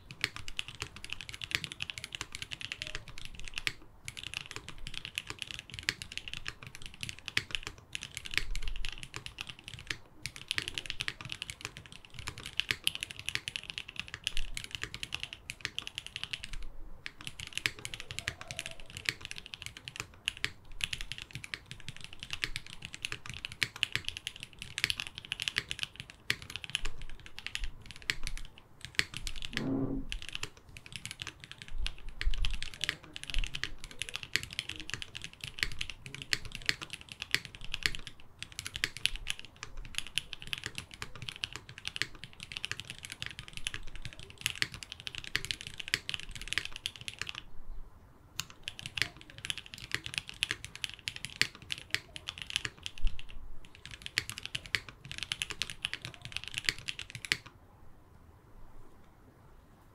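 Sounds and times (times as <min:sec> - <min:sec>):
fast typing on mechanical keyboard: 0:00.0 - 0:47.4, 0:48.4 - 0:57.5.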